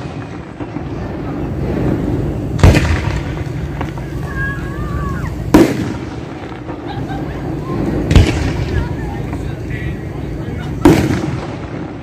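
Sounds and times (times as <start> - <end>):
fireworks bangs: 0.0 - 12.0
low background rumble: 0.0 - 12.0.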